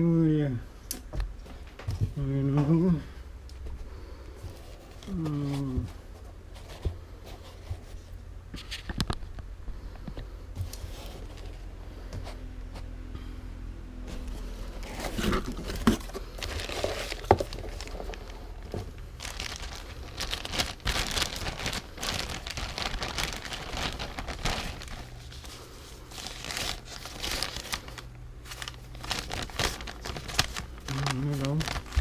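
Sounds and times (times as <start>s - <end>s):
crinkling and rustling: 3.5s - 12.9s, 14.0s - 32.0s.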